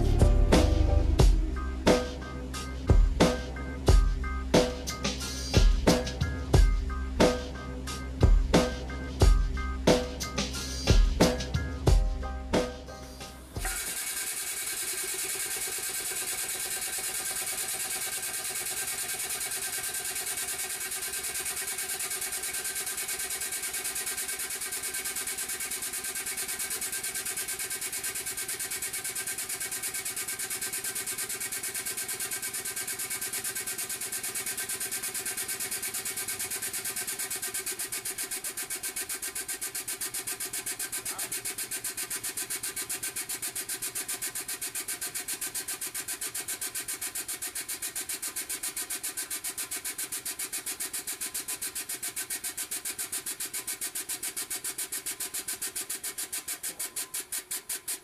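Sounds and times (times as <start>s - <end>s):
air-driven pump pulsing: 0.0s - 58.0s.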